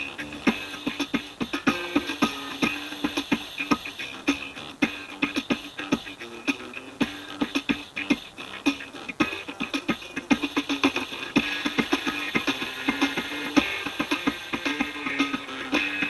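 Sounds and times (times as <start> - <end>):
thin music with fast percussive beat: 0.0 - 16.0.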